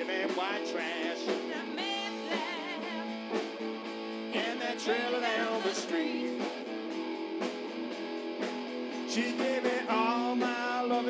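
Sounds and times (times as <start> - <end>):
electric guitar: 0.0 - 11.0
live electric blues band: 0.0 - 11.0.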